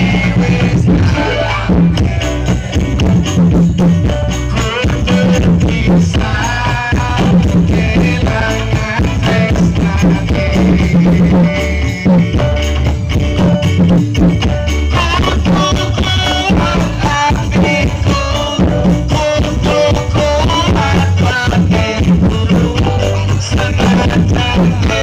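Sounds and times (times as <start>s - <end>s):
loud music with drum beat: 0.0s - 25.0s.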